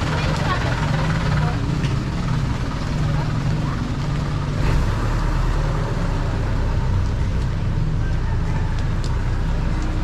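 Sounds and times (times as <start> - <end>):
street noise hiss: 0.0 - 10.0
vehicle engine rumbling: 0.0 - 10.0.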